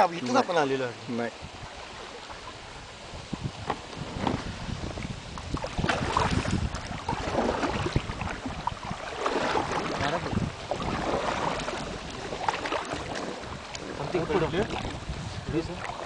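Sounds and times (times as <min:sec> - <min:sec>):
water splashing around boat: 0:00.0 - 0:16.0
wind on microphone: 0:00.4 - 0:16.0.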